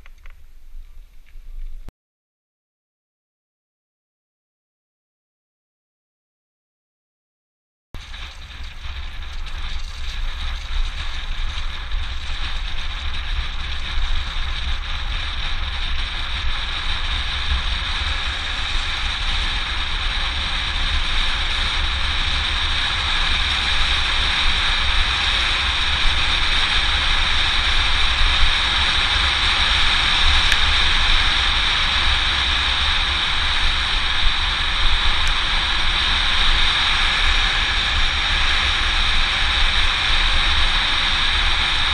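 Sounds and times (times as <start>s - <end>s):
bicycle tyre noise: 8.0s - 41.9s
wind rushing over microphone: 8.0s - 41.9s.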